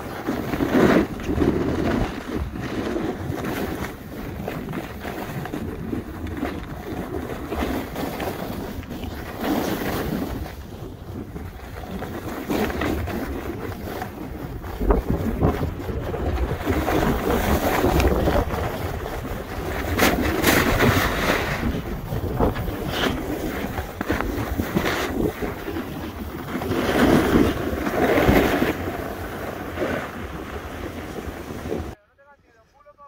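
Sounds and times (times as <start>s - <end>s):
board edges scraping on snow: 0.0s - 32.0s
wind rushing over microphone: 0.0s - 32.0s.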